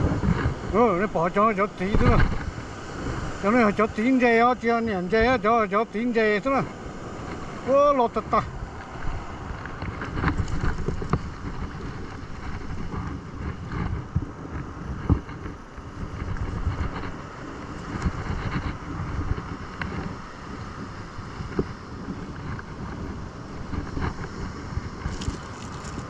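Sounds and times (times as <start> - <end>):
surf on a beach: 0.0 - 26.0
wind buffeting microphone: 0.0 - 26.0.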